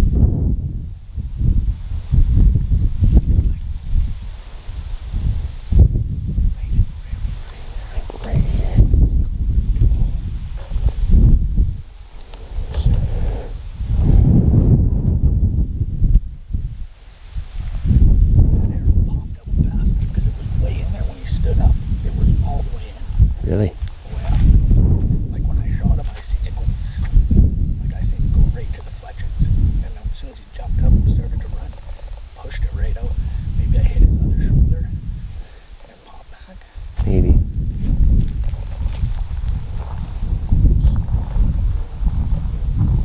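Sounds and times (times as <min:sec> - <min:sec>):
cricket chirping: 0:00.0 - 0:43.0
loud uneven low rumble: 0:05.1 - 0:16.8, 0:17.6 - 0:43.0.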